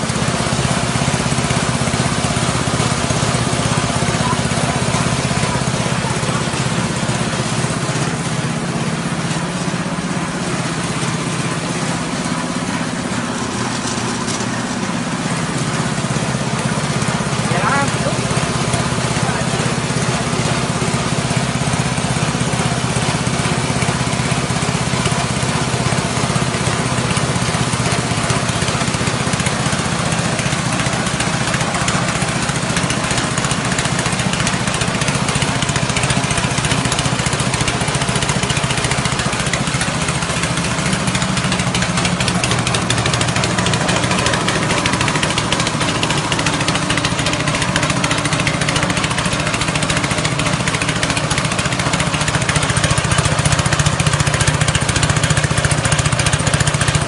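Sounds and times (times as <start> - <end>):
engine hum: 0.0 - 57.0
grinding machine noise: 0.0 - 57.0.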